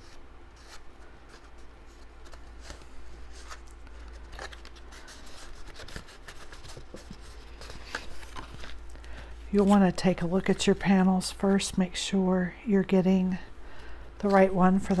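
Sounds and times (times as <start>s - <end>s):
paper rustling and folding: 0.0s - 11.9s, 13.6s - 15.0s
steady low hum: 0.0s - 15.0s.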